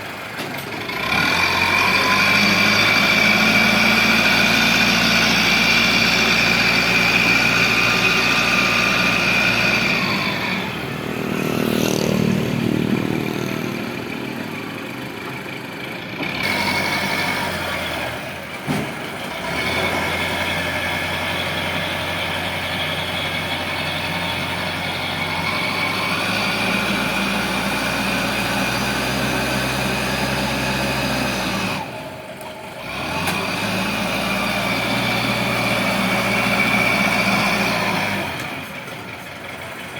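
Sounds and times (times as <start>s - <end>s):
heavy machine engines running: 0.0s - 39.9s.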